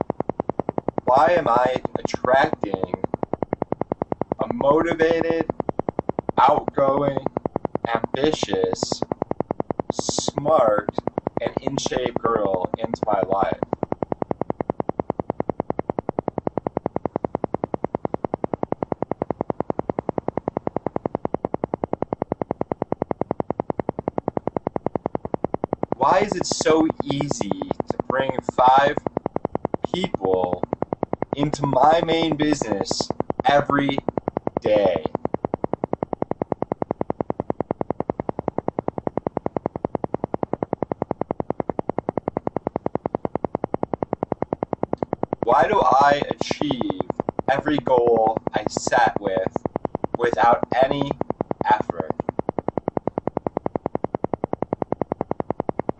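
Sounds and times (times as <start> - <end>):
buzzy pulsing synthesized tone: 0.0 - 55.9.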